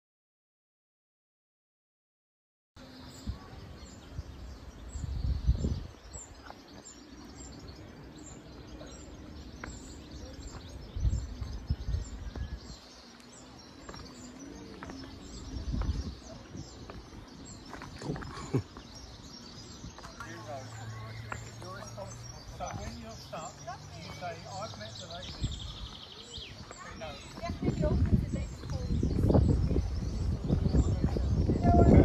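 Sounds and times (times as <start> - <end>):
small birds chirping: 2.8 - 32.0
wind buffeting microphone: 3.1 - 32.0.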